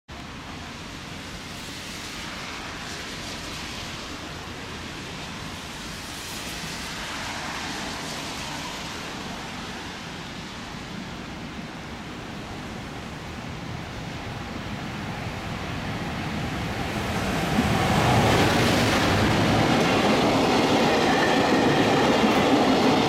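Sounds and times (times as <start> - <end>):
freight train rumbling: 0.1 - 23.0.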